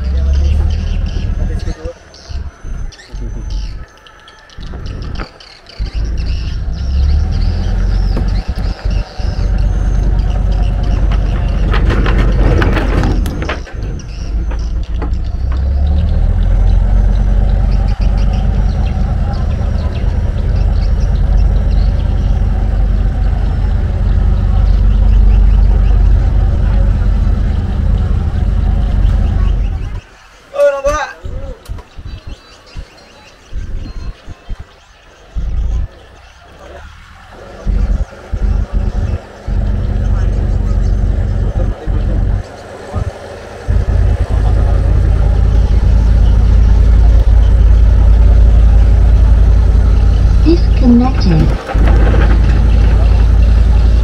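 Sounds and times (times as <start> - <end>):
boat engine drone: 0.0 - 30.5, 35.3 - 54.0.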